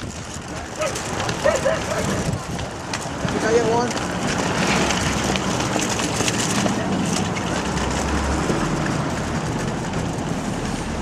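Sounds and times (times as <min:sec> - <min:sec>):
clatter: 0:00.0 - 0:11.0
traffic rumble: 0:00.0 - 0:11.0.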